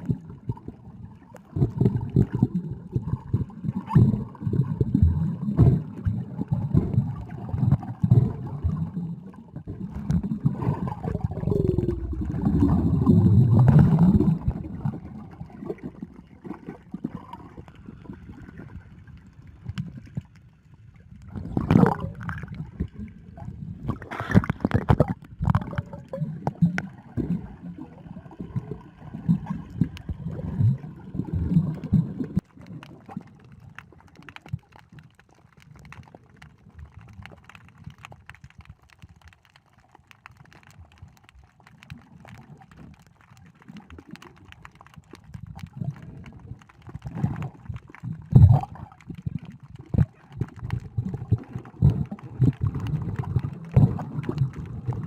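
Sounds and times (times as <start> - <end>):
underwater sea water sloshing: 0.0 - 55.0
water splashes: 0.0 - 55.0.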